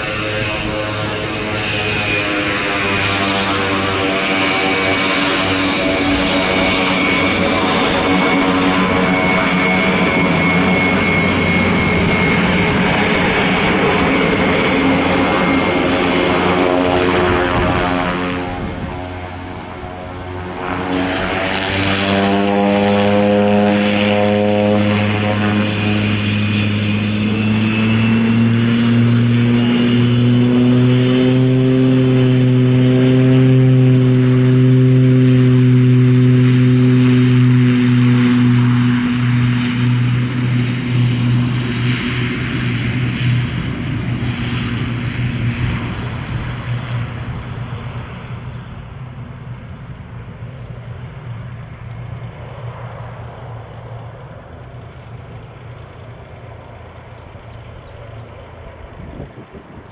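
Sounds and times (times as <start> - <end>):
high turbine whine: 0.0 - 59.9
propeller drone: 0.0 - 59.9.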